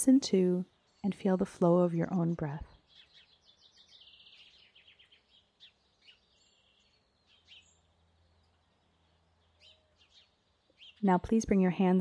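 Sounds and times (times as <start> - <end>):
faint wild birdsong trilling: 0.0 - 12.0.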